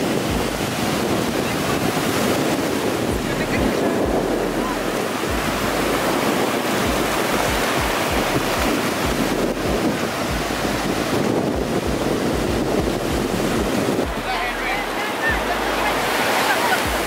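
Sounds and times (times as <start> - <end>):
ocean surf washing: 0.0 - 17.0
wind buffeting microphone: 0.0 - 17.0.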